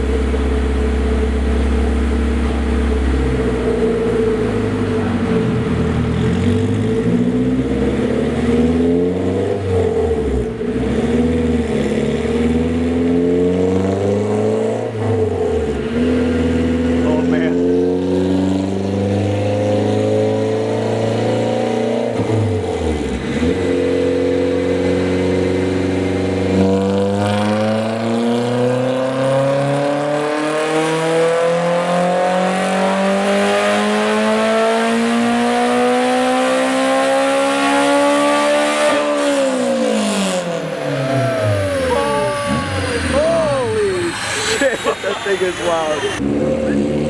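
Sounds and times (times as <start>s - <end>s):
car engine revving on dyno: 0.0s - 47.0s.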